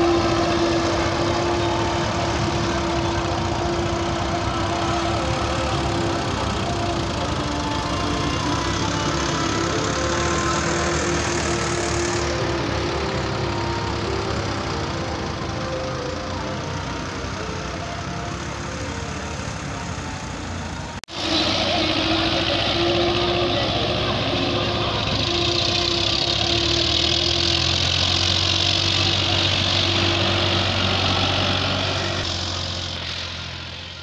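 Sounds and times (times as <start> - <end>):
tractor engines under load: 0.0 - 34.0.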